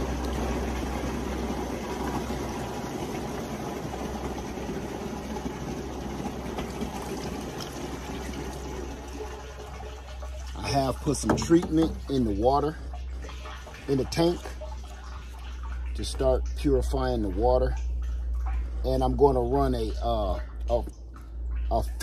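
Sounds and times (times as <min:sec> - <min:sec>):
low hum: 0:00.0 - 0:22.0
water splashing onto mesh screen: 0:00.0 - 0:22.0.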